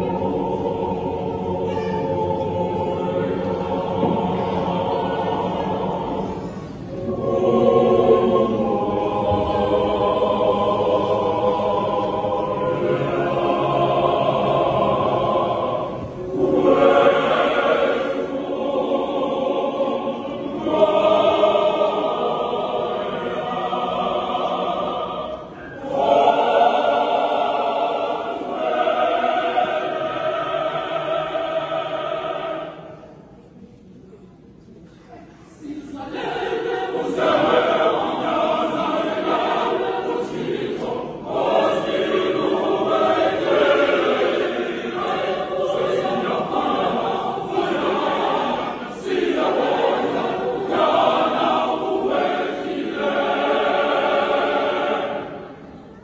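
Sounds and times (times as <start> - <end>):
mixed choir singing in harmony: 0.0 - 34.2, 35.5 - 56.0.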